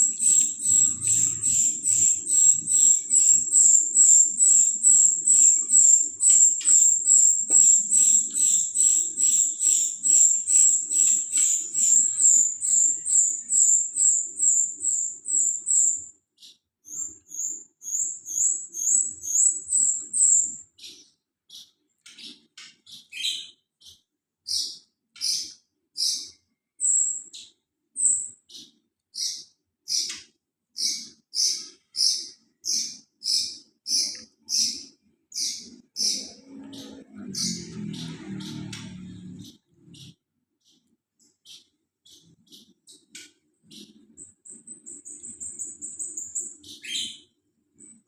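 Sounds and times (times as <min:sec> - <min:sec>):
songbird chirping: 0:00.0 - 0:30.2, 0:30.8 - 0:48.0.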